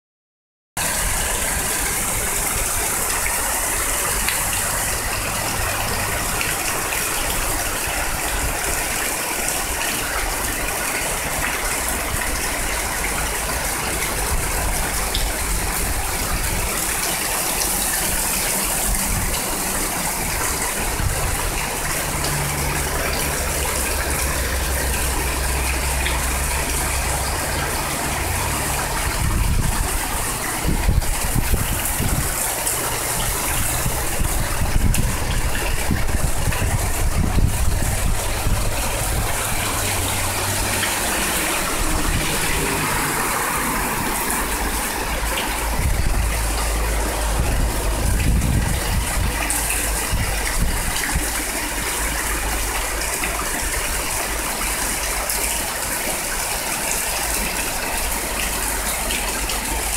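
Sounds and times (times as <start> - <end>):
heavy rain pouring: 0.8 - 59.9
water streaming off roof: 0.8 - 59.9.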